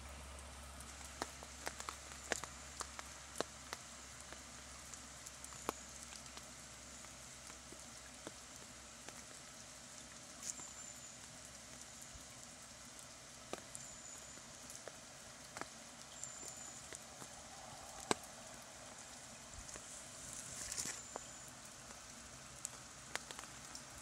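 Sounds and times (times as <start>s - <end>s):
flowing water hiss: 0.0s - 24.0s
water drips and splashes: 0.1s - 24.0s.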